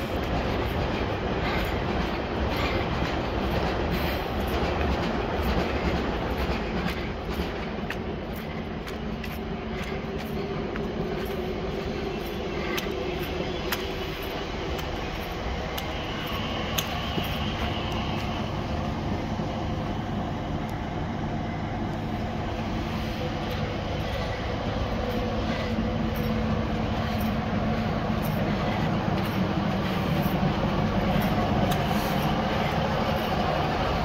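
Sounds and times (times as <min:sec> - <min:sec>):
train diesel engine hum: 0:00.0 - 0:34.0.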